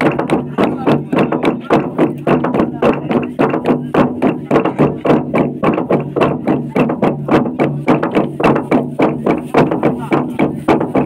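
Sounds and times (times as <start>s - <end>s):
log drum wooden knocks: 0.0s - 11.0s.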